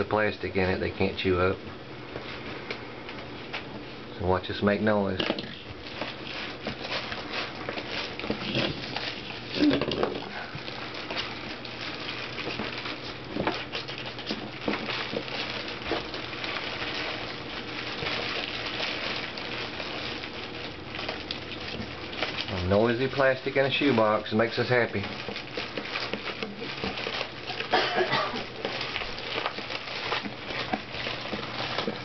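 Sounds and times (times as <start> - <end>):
plastic crinkling and rustling: 0.0 - 32.0.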